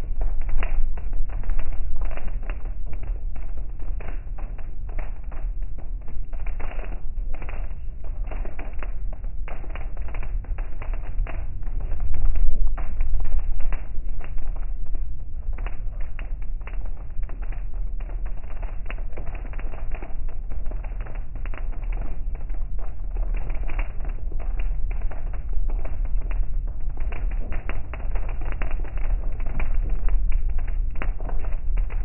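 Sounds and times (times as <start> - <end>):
rain drumming on car roof: 0.1 - 32.0.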